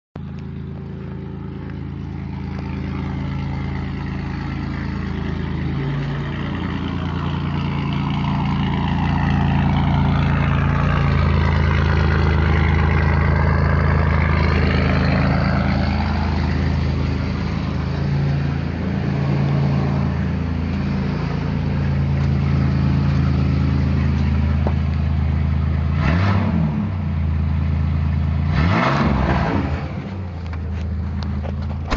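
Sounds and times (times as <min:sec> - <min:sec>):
loud engine running: 0:00.2 - 0:31.9.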